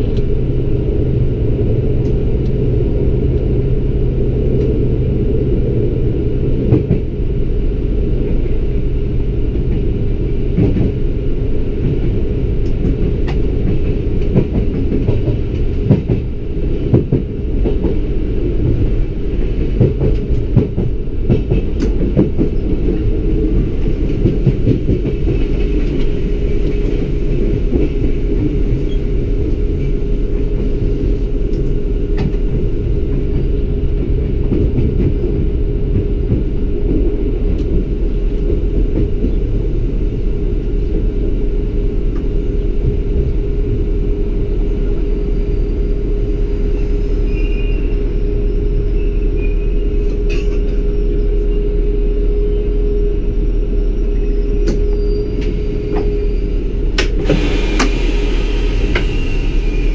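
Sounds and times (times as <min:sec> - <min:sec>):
railcar engine rumble: 0:00.0 - 0:59.9.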